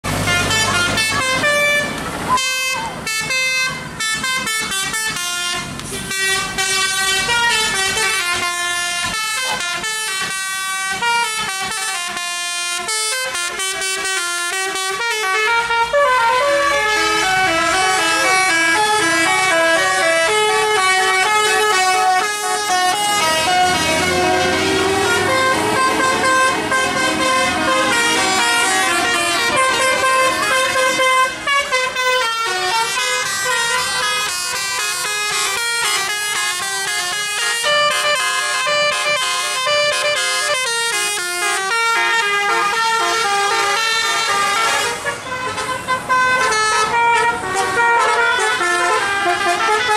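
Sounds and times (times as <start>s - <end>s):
bus engine noise: 0.0s - 49.9s
multi-tone bus air horns: 0.0s - 49.9s.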